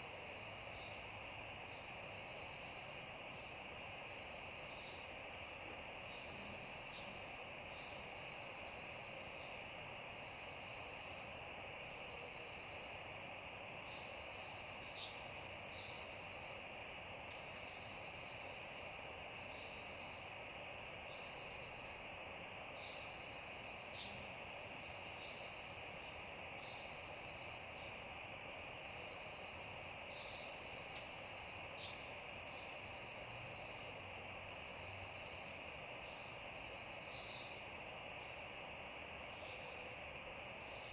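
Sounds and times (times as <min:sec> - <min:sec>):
crickets trilling: 0:00.1 - 0:40.9.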